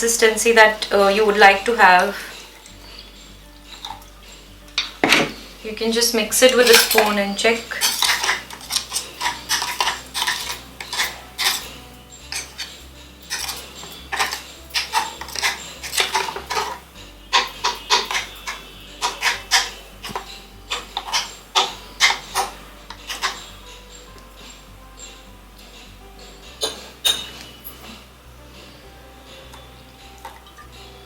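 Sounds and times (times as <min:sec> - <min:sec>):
spoon clinking and scraping in jar: 0:01.0 - 0:05.5, 0:06.4 - 0:28.0.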